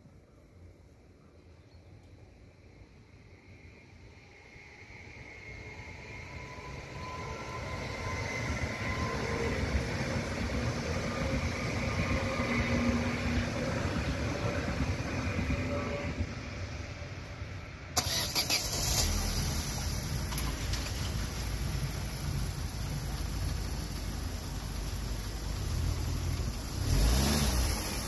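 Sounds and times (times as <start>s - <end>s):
electric train passing: 2.4s - 28.0s.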